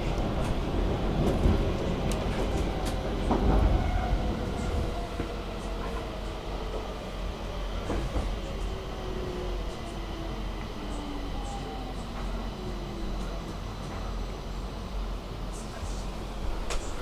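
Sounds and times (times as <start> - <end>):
metro train rumbling on track: 0.0 - 17.0.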